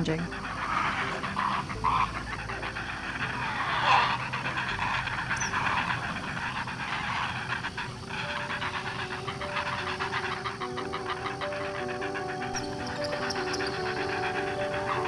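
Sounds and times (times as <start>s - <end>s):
young herons rasping calls: 0.0s - 15.0s.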